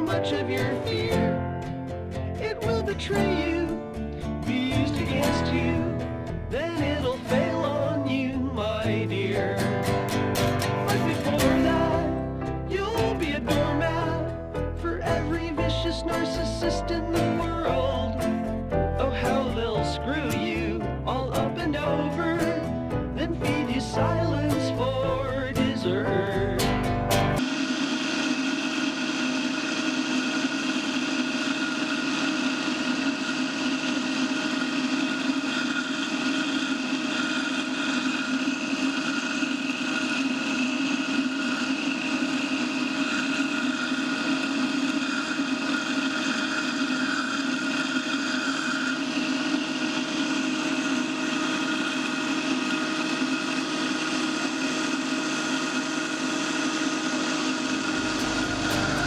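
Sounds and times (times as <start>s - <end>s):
steady mechanical drone: 0.0s - 59.0s.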